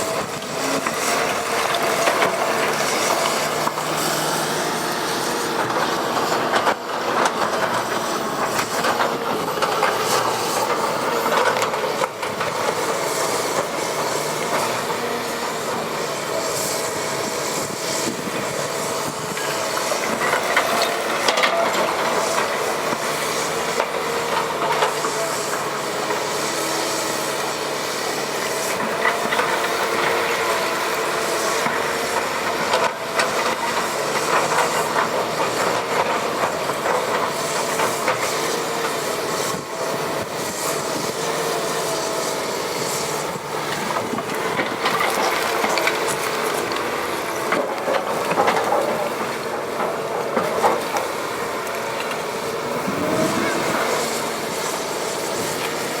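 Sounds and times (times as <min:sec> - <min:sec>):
excavator engine whine: 0:00.0 - 0:56.0.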